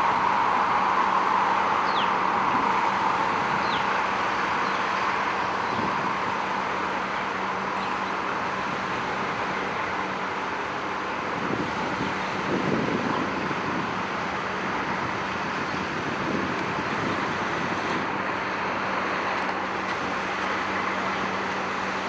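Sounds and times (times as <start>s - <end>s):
distant road traffic: 0.0s - 22.0s
wind: 0.0s - 22.0s.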